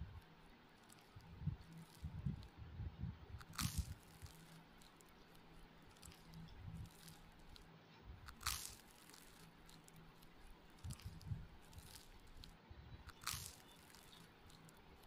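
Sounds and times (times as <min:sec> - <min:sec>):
soft chewing: 0:00.7 - 0:02.5, 0:03.4 - 0:07.7, 0:08.3 - 0:15.0.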